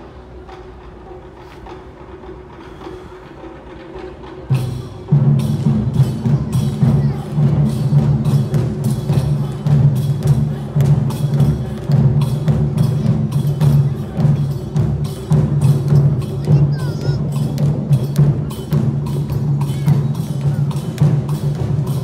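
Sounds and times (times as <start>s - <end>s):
loud music with heavy drums: 3.4s - 22.0s.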